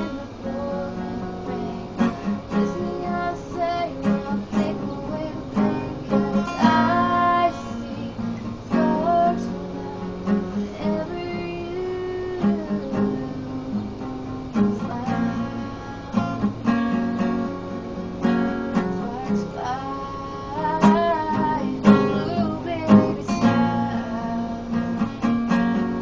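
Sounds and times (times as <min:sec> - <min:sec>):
girl singing: 0:00.0 - 0:16.7, 0:18.6 - 0:26.0
acoustic guitar strumming: 0:00.0 - 0:26.0.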